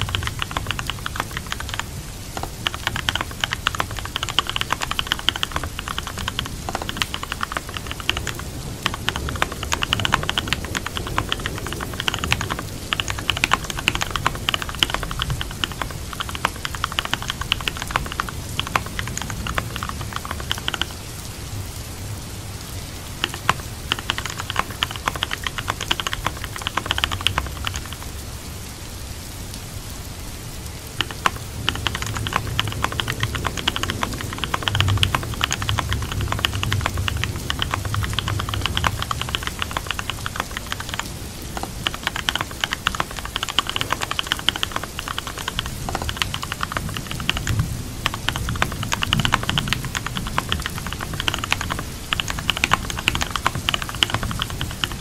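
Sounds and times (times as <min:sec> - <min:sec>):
computer keyboard typing: 0:00.0 - 0:21.2, 0:22.6 - 0:28.3, 0:30.8 - 0:55.0
steady rain: 0:00.0 - 0:55.0.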